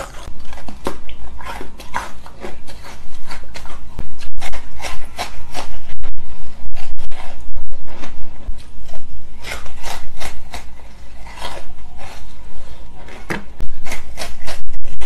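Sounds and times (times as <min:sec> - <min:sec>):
ice crunching while chewed: 0:00.0 - 0:05.9, 0:06.8 - 0:15.0.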